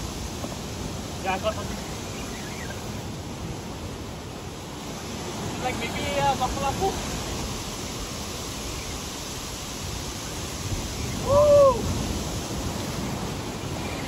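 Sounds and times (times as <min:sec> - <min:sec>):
surf breaking on rocks: 0:00.0 - 0:14.0.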